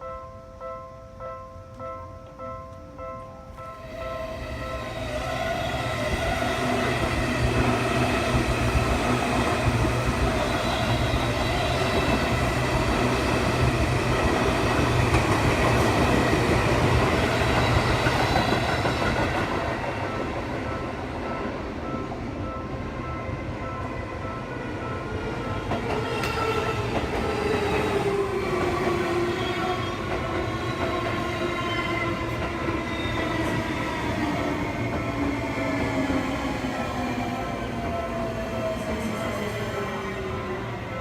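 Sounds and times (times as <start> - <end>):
electric train passing: 0.0 - 41.0.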